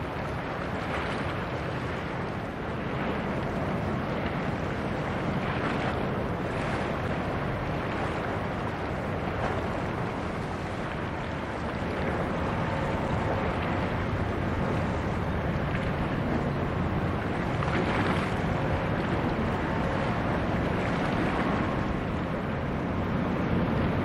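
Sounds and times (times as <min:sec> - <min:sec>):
rush of water from ship wake: 0:00.0 - 0:24.0
wind buffeting microphone: 0:00.0 - 0:24.0.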